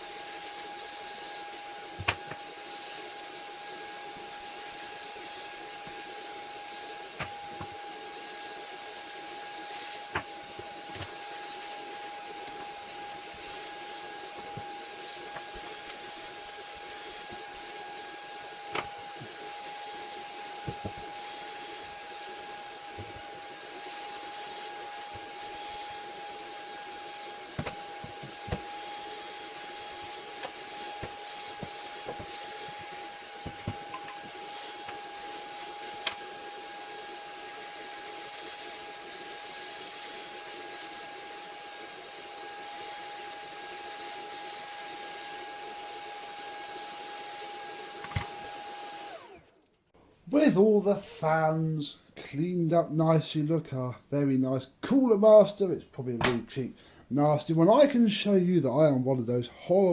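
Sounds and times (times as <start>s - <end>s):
vacuum cleaner running: 0.0s - 49.6s.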